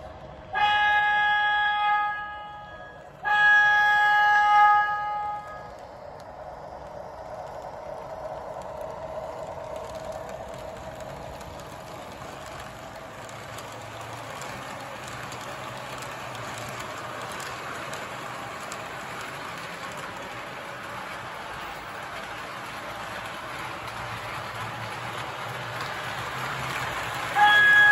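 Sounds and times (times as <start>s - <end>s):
wheels ticking over rails: 5.1s - 27.9s.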